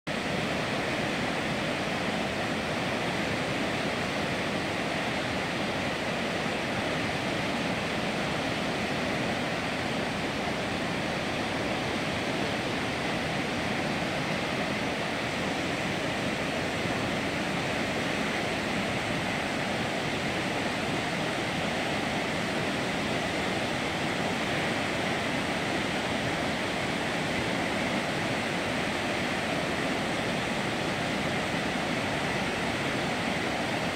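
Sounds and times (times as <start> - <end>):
floodwater rushing: 0.1 - 33.9.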